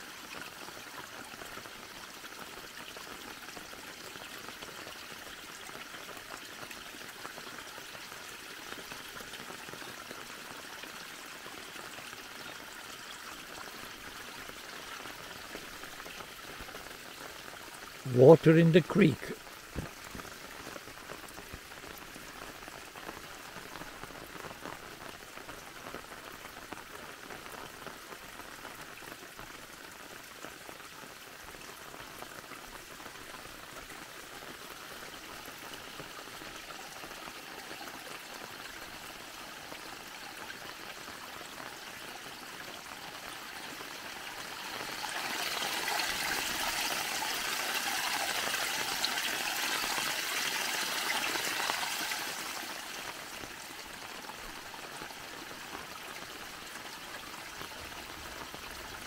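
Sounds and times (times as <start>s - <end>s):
water pouring from culvert: 0.0s - 59.0s
water trickling over stones: 0.0s - 59.0s.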